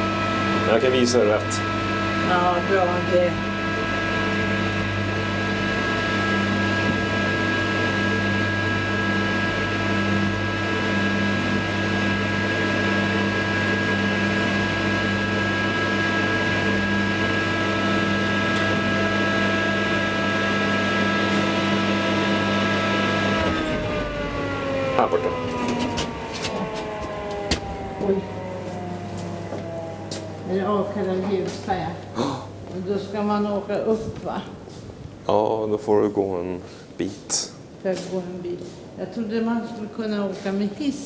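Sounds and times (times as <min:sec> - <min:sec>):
elevator electric hum: 0:00.0 - 0:41.0.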